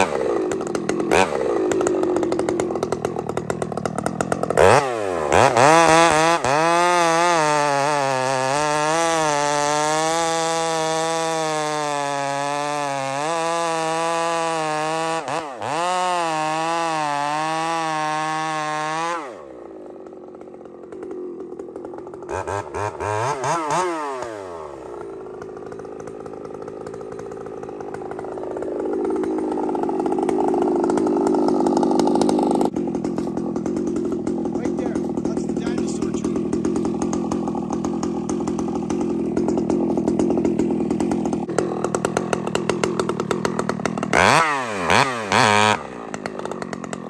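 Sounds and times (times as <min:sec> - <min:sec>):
chainsaw cutting wood: 0:00.0 - 0:47.0
chainsaw idling: 0:00.0 - 0:47.0.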